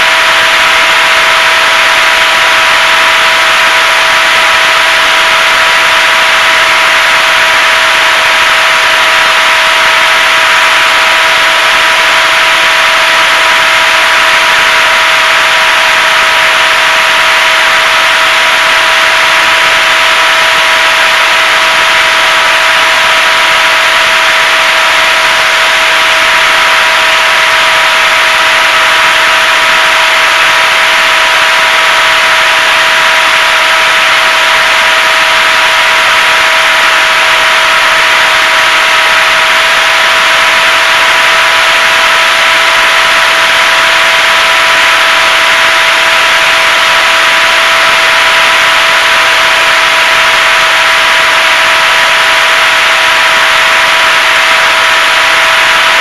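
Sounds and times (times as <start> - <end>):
electric motor whine: 0.0 - 56.0.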